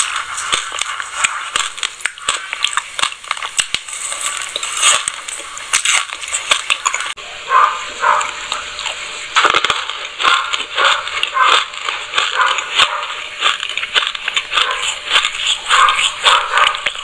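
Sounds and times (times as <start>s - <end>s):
crunchy chewing of seeds: 0.0s - 17.0s.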